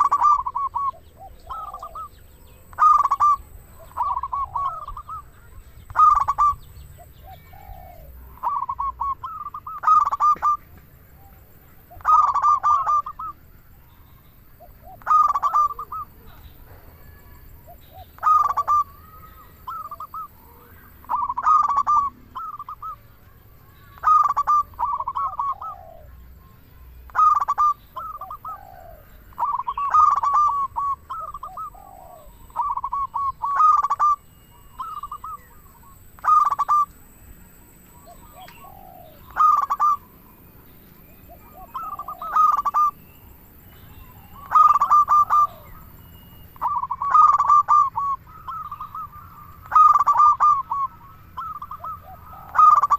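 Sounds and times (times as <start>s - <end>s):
dove cooing: 0.0s - 13.5s, 14.5s - 23.1s, 23.9s - 26.5s, 27.1s - 37.1s, 37.7s - 52.9s.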